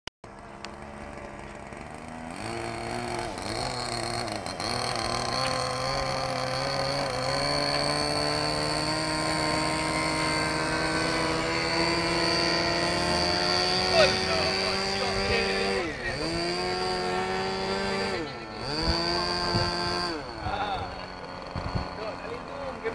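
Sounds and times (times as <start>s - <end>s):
model airplane engine droning: 0.3s - 22.9s.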